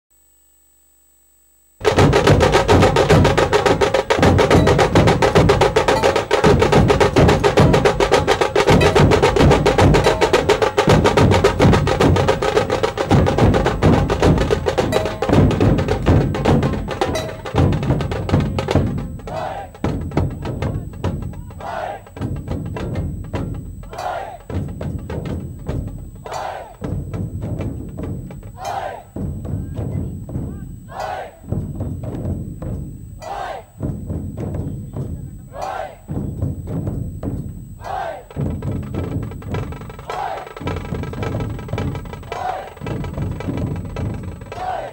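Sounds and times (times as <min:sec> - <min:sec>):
barrel drums beaten with sticks: 0:01.8 - 0:44.9.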